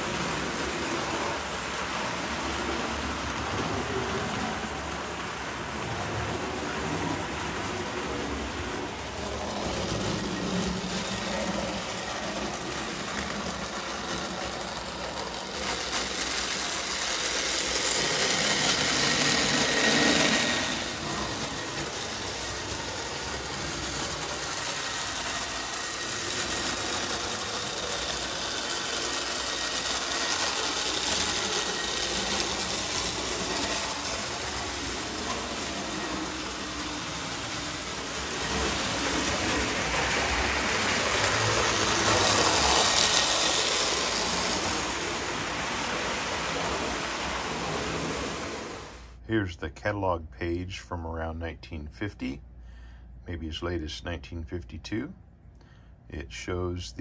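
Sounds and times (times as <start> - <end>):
toy train electric motor: 0.0 - 49.1
toy train wheels rolling on rails: 0.0 - 49.1.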